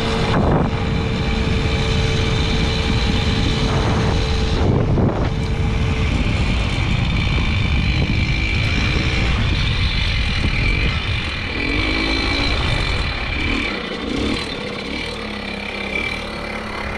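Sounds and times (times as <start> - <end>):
wind buffeting microphone: 0.0 - 14.6
moped engine running: 0.0 - 16.9.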